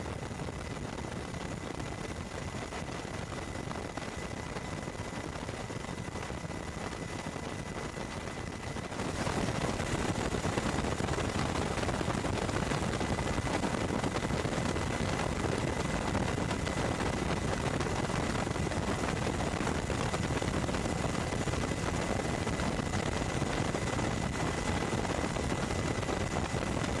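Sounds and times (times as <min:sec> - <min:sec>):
aircraft engine noise: 0:00.0 - 0:27.0.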